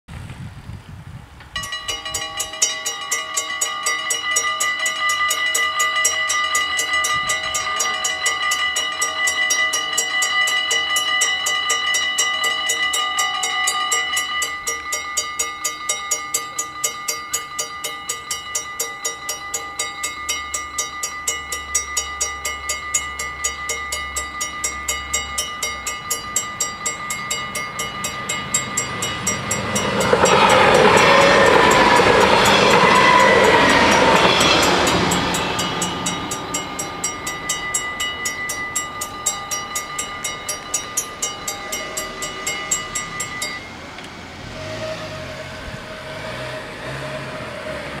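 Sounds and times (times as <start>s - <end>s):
diesel train passing: 1.3s - 48.0s
level crossing bells ringing: 1.6s - 44.0s.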